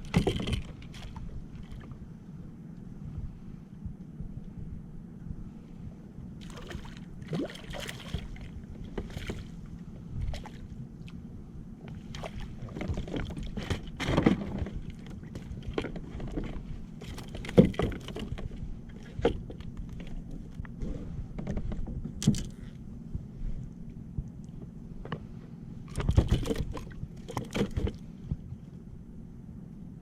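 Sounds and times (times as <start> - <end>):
low rumble: 0.0 - 30.0
water sloshing against hull: 0.0 - 30.0.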